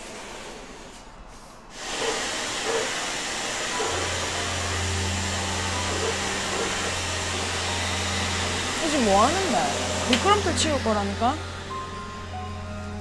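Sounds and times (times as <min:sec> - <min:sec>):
vacuum cleaner air rushing: 0:00.0 - 0:13.0
low motor hum: 0:01.8 - 0:13.0.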